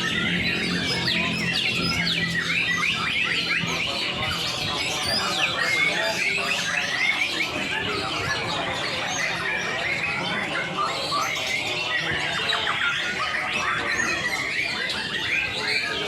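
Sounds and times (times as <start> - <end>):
birds singing: 0.0 - 16.0
harsh squawking bird calls: 0.0 - 16.0.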